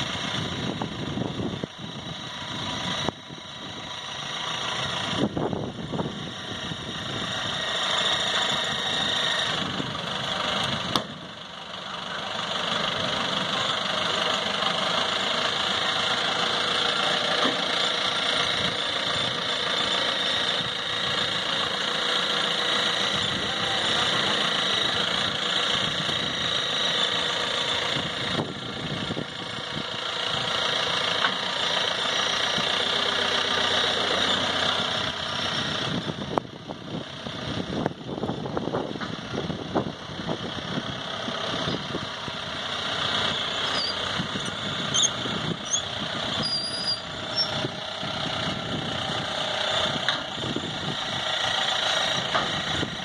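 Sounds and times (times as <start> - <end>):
jeep engine running: 0.0 - 53.0.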